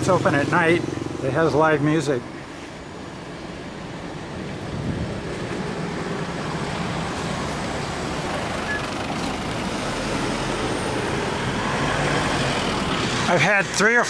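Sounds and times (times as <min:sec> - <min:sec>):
vehicles passing close: 0:00.0 - 0:14.0.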